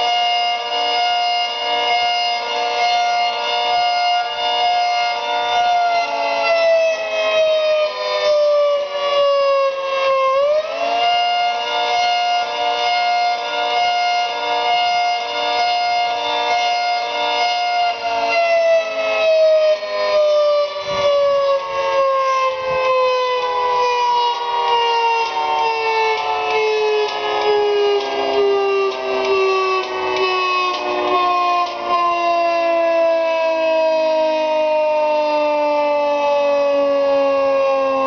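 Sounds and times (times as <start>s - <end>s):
pulsing warning siren: 0.0s - 38.0s.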